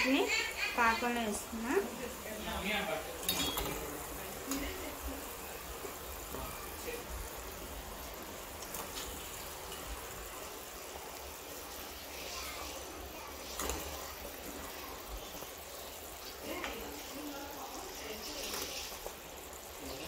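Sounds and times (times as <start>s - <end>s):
hot syrup fizzing and bubbling: 0.0s - 20.0s.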